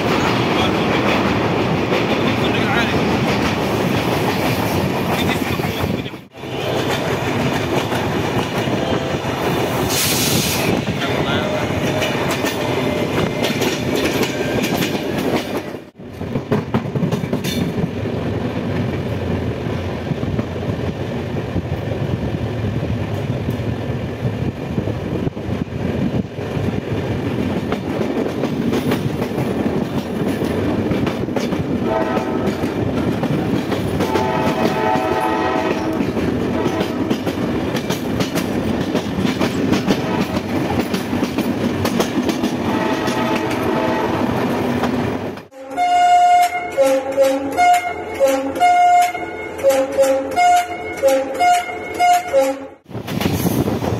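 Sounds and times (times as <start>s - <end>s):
train rumble: 0.0s - 45.6s, 46.2s - 53.9s.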